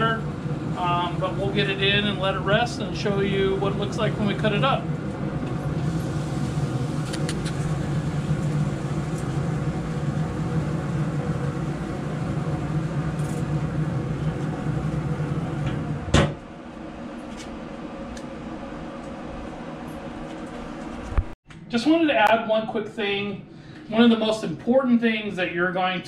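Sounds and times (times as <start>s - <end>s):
pellet grill humming: 0.0s - 25.6s.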